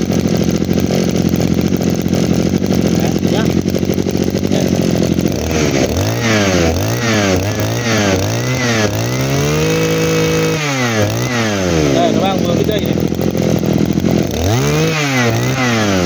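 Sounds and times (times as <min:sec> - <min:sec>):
brush cutter engine revving: 0:00.0 - 0:16.0.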